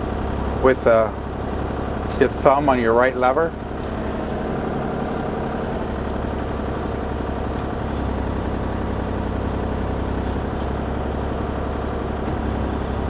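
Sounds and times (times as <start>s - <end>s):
excavator diesel engine running: 0.0s - 13.0s
low hum: 0.0s - 13.0s.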